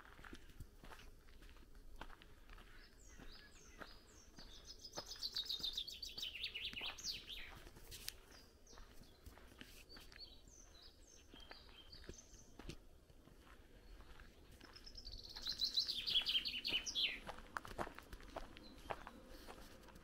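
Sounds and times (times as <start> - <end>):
birds chirping: 2.1 - 20.0.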